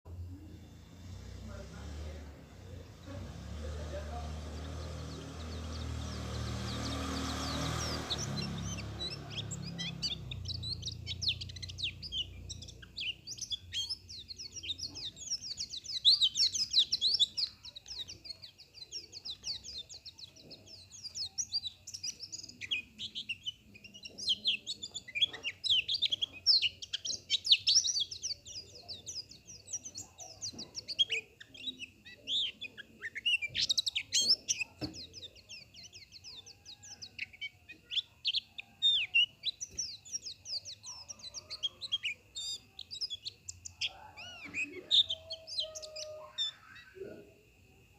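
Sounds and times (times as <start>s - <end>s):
bird twittering chirps: 0.2s - 47.9s.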